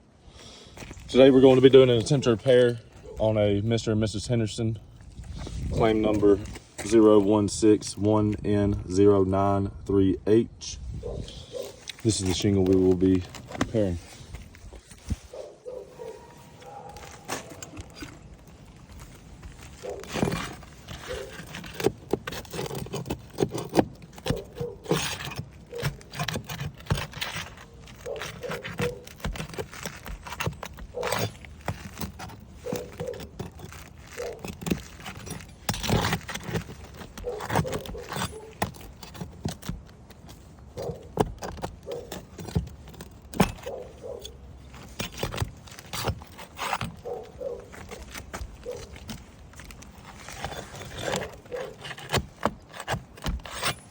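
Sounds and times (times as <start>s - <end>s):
clicks scrapes and knocks on shingle: 0.3s - 10.4s, 11.0s - 53.9s.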